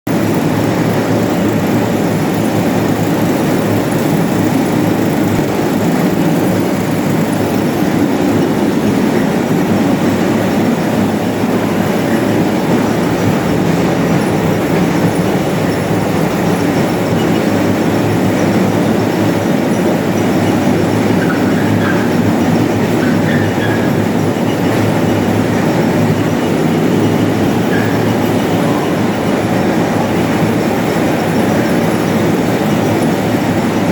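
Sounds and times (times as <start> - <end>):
grain cleaning machine running: 0.1 - 33.9.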